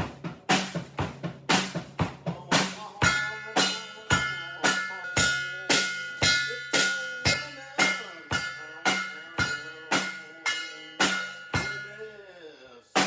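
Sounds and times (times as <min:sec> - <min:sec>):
drum struck in steady beat: 0:00.0 - 0:12.2.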